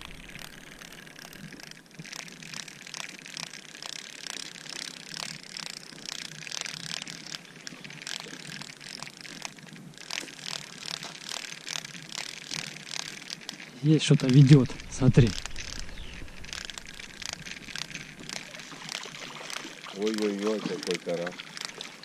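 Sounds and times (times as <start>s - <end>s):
fishing reel gears ticking: 0.0s - 22.0s.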